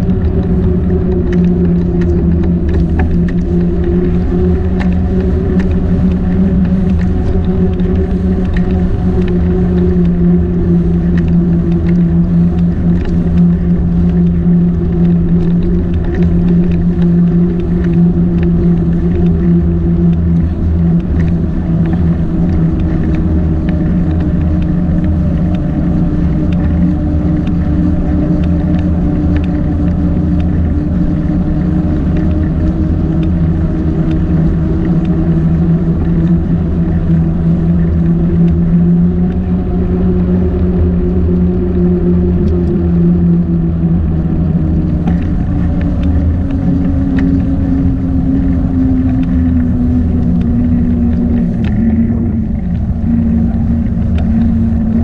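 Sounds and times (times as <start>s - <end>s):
low rumble: 0.0s - 55.0s
motor running steadily: 0.0s - 55.0s.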